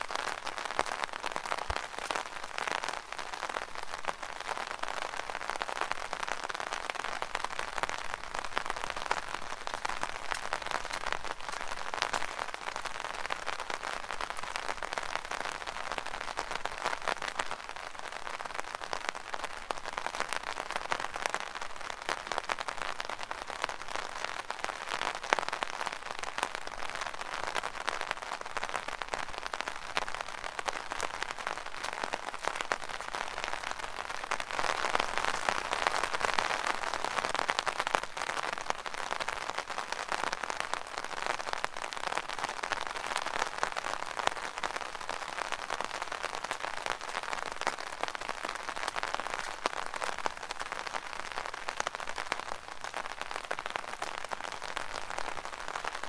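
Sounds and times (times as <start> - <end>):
rain drumming on an umbrella: 0.0 - 56.0.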